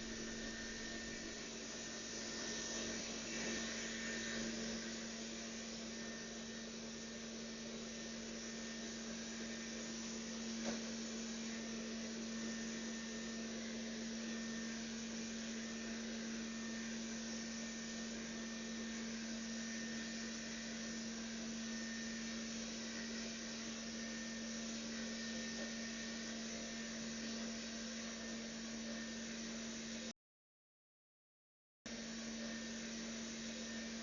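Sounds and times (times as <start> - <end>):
robot vacuum motor whir: 0.0 - 29.8, 32.0 - 34.0.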